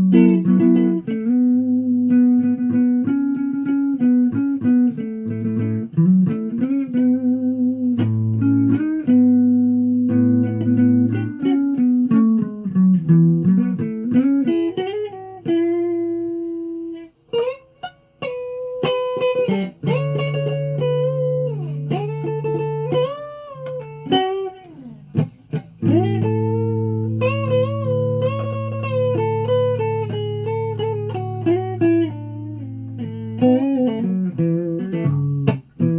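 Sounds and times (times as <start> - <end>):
guitar playing bent notes: 0.0 - 35.9.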